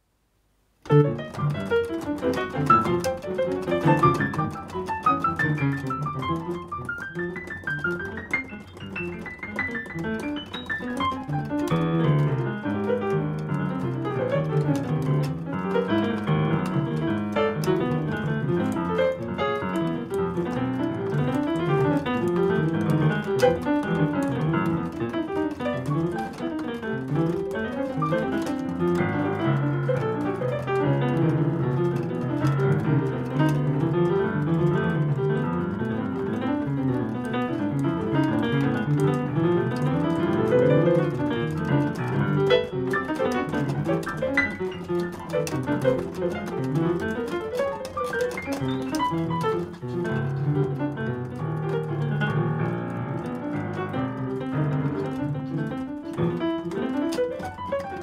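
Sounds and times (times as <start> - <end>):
piano quick notes: 0.8 - 58.0.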